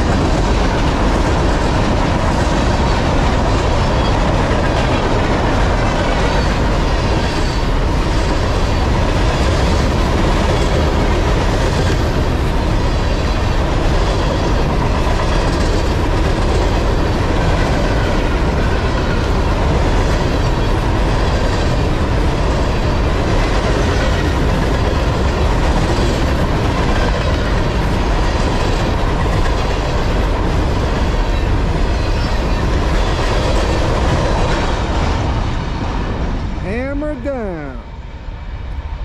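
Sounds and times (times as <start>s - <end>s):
freight train wheels clattering: 0.0s - 36.3s.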